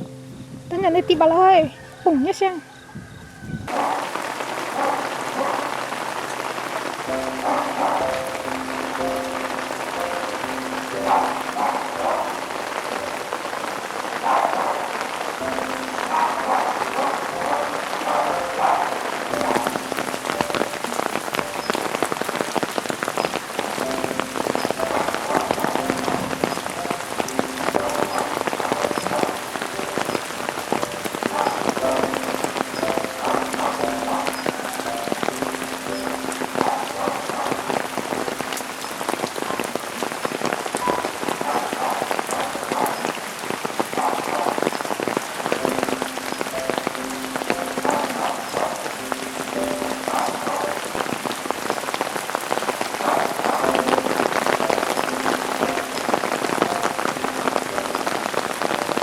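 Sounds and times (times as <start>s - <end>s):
soft background music: 0.0s - 42.9s, 45.2s - 59.0s
steady rain with drips: 0.0s - 59.0s.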